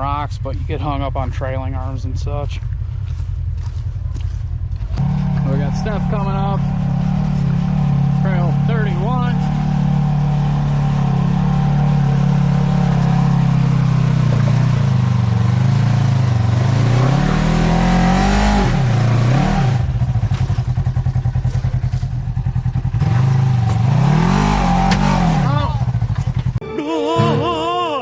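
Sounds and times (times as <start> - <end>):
utility vehicle engine revving: 2.8 - 26.6.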